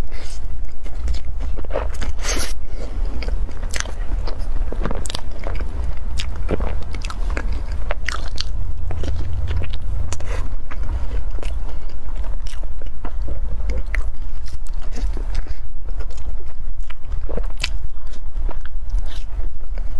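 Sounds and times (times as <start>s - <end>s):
crisp chewing crunches: 0.0s - 19.9s
steady low hum: 0.0s - 19.9s.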